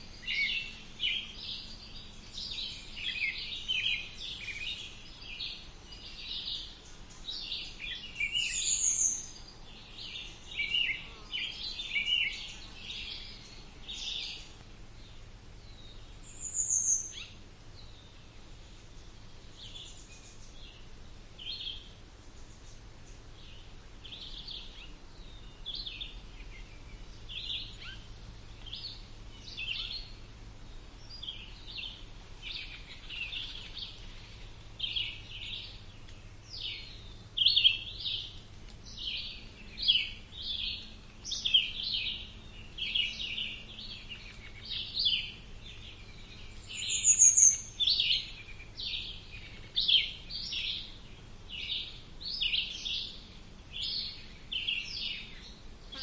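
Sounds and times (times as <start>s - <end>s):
birds chirping: 0.0s - 56.0s
faint low hum: 0.0s - 56.0s.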